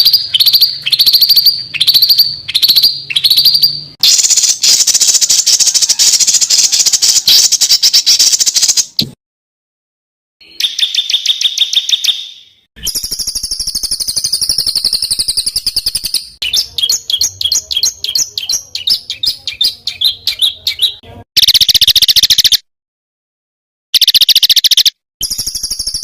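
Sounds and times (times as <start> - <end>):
songbirds trilling and chattering: 0.0 - 9.0, 10.4 - 22.6.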